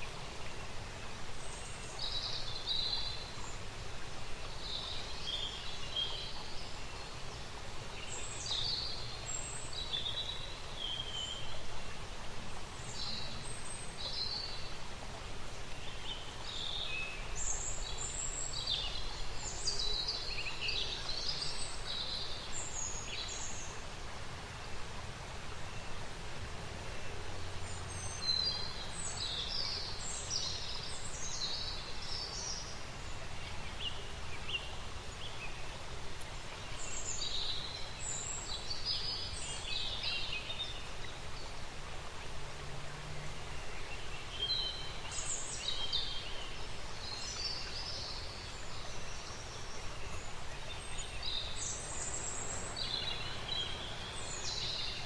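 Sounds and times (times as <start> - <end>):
low background noise: 0.0 - 55.0.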